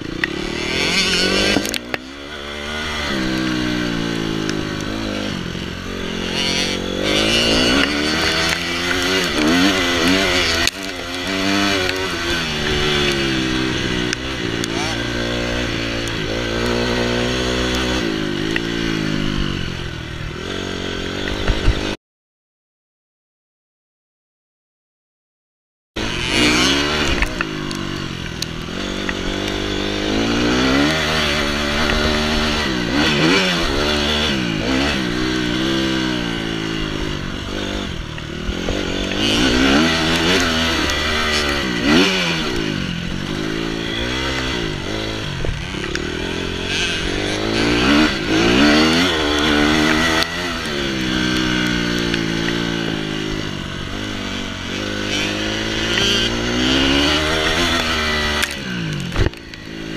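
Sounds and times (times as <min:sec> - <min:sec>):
dirt bike engine revving: 0:00.0 - 0:22.0, 0:26.0 - 0:59.9.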